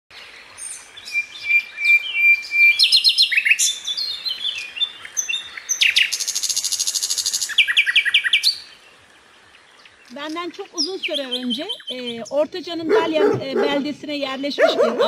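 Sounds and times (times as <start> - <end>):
small birds chirping and singing: 0.1 - 15.0.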